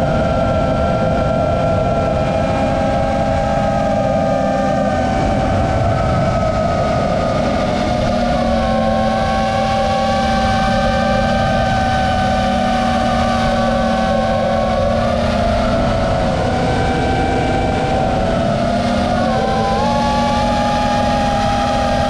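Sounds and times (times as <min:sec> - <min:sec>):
drone motors whining: 0:00.0 - 0:22.0
steady noisy rush: 0:00.0 - 0:22.0.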